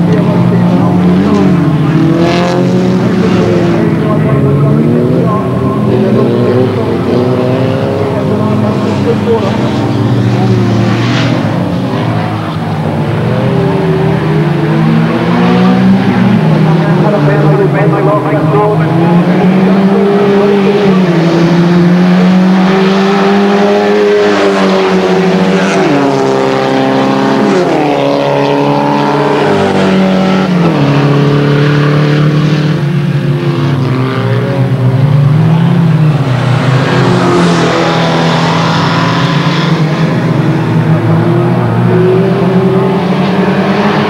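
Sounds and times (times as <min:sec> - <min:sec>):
racing car engines revving: 0:00.0 - 0:44.0.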